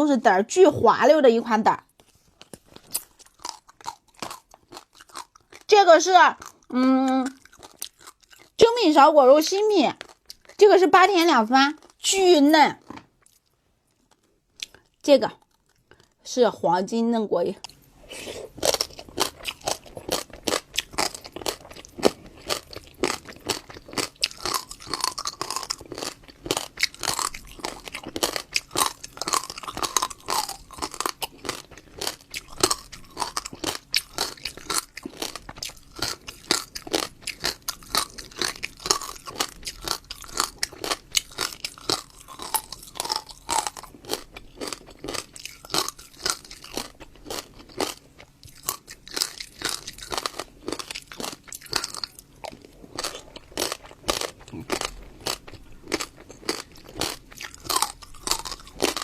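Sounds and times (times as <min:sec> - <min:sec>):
chewing crunchy seeds: 0:01.9 - 0:08.7, 0:09.9 - 0:10.8, 0:11.7 - 0:12.0, 0:12.8 - 0:16.2, 0:17.6 - 0:59.0.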